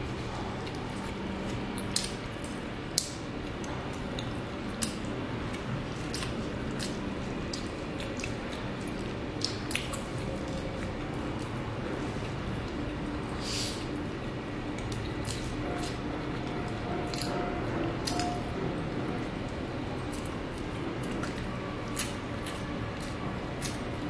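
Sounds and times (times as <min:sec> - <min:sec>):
wet squishy chewing: 0:00.3 - 0:11.6, 0:14.7 - 0:24.0.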